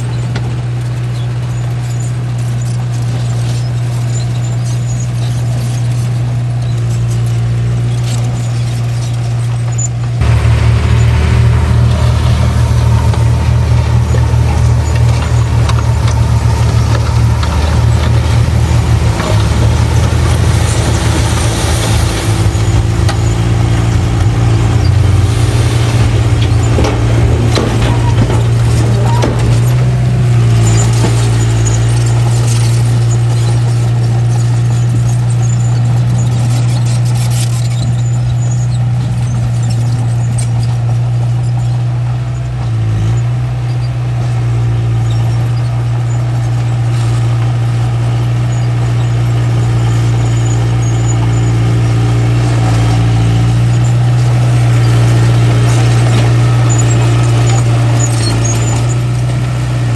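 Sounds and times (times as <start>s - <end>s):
bulldozer diesel engine running: 0.0s - 59.9s
short high squeaks: 0.0s - 59.9s.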